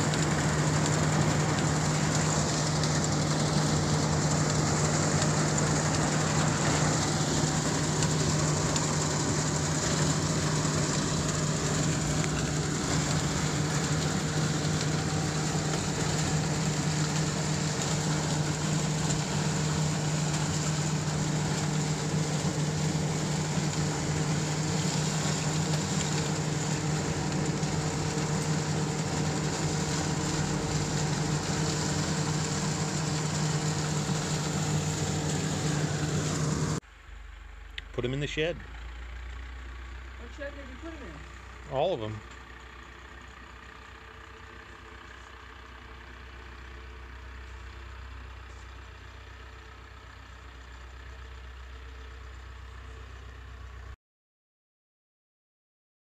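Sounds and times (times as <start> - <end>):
tractor and corn picker running: 0.0 - 54.0.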